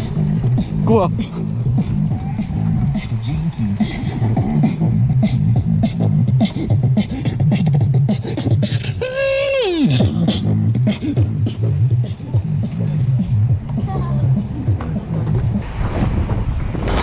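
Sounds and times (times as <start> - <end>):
hip-hop beat with hi-hats: 0.0 - 15.6.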